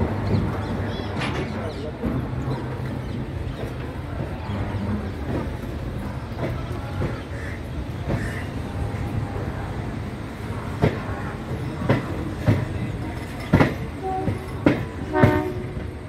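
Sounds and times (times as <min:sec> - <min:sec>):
train rumbling on track: 0:00.0 - 0:16.0
wheels clacking over rail joints: 0:00.0 - 0:16.0.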